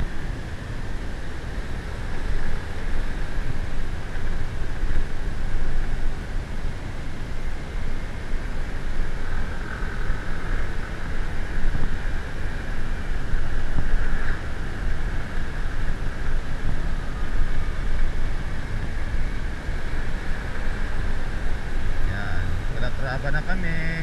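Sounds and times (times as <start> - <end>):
vehicle road and engine noise: 0.0 - 24.0
wind rushing over microphone: 0.0 - 24.0.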